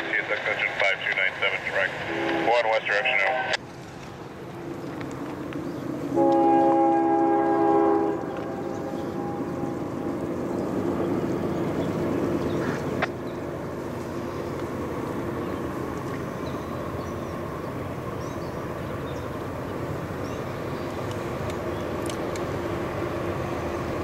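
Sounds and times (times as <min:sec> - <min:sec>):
distant freight train rumble: 0:00.0 - 0:24.0.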